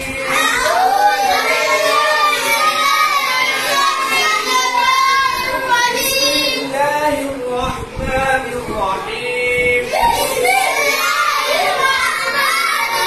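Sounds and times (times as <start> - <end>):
children chanting together: 0.0 - 7.4, 9.8 - 13.0.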